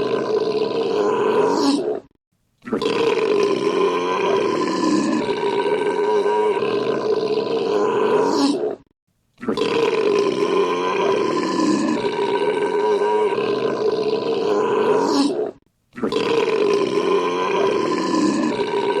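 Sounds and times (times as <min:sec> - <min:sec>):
man belching: 0:00.0 - 0:01.7, 0:02.6 - 0:15.2, 0:16.0 - 0:19.0.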